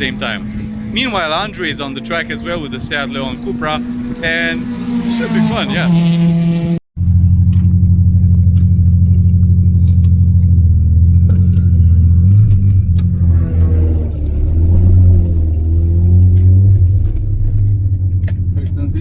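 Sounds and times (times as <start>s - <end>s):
rotary engine running at low revs: 0.0s - 19.0s.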